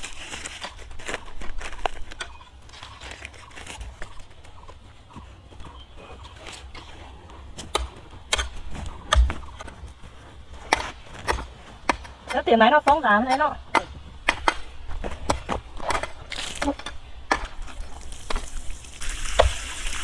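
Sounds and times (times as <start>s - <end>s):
soil and stones crunching: 0.0s - 20.0s.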